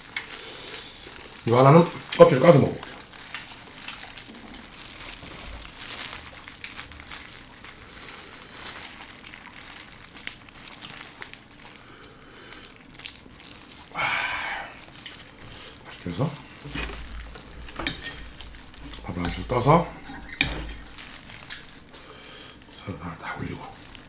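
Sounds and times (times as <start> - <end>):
shrimp shell cracking: 0.0 - 22.8, 23.6 - 24.0
plastic gloves crinkling: 0.0 - 24.0.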